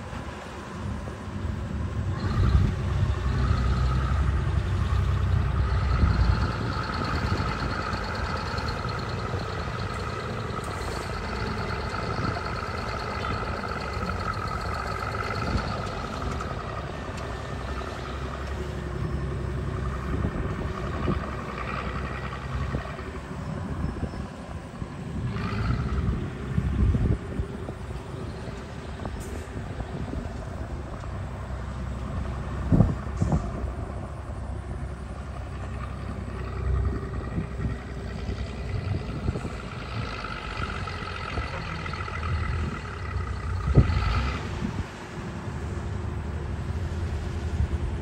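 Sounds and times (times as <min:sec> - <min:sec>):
bulldozer diesel engine rumbling: 0:00.0 - 0:48.0.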